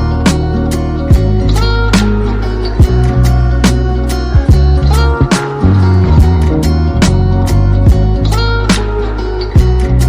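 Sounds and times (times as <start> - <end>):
music with bass and steady beat: 0.0 - 10.0.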